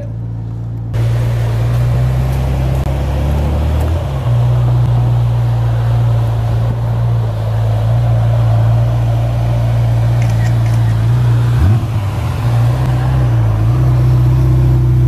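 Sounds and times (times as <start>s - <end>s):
car engine running low: 0.0s - 15.0s.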